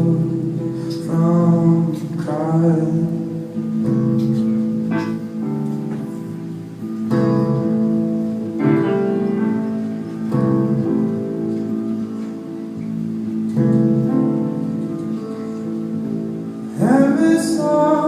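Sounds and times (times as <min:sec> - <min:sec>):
guitar strumming slow chords: 0:00.0 - 0:18.0.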